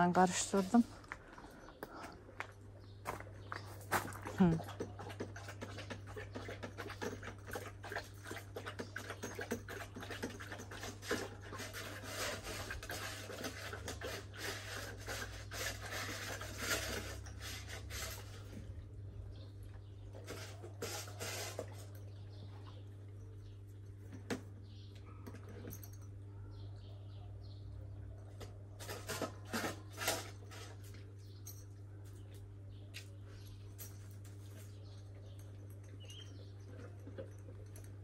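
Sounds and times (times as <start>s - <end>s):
dogs eating from bowls: 0.2s - 31.9s, 33.4s - 38.0s.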